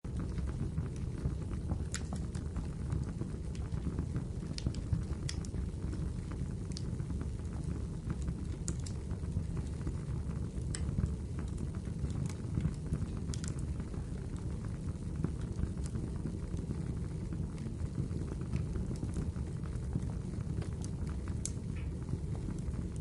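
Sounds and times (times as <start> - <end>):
fire flames rumbling: 0.1 - 23.0
firewood crackling and popping: 0.1 - 23.0.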